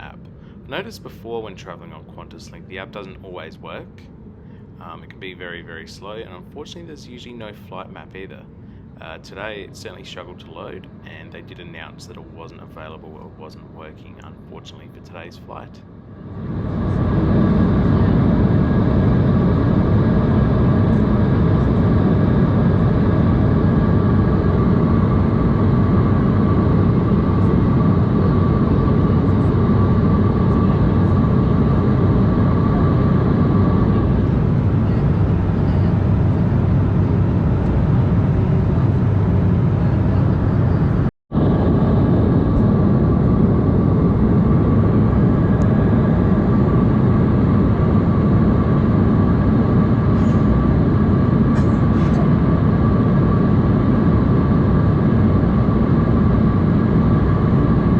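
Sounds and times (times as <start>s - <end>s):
airflow and jet engine rush: 0.0s - 57.9s
faint steady whine: 0.0s - 57.9s.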